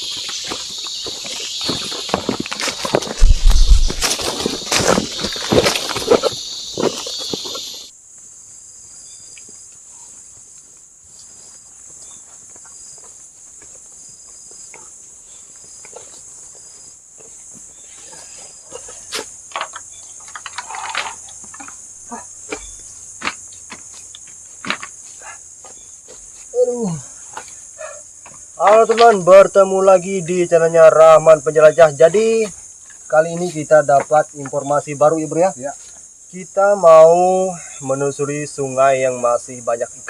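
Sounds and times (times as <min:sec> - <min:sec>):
insect chorus: 0:00.0 - 0:40.0.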